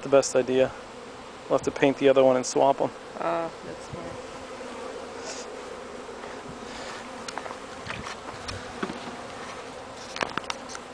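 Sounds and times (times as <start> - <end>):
honeybees buzzing: 0.0 - 10.9.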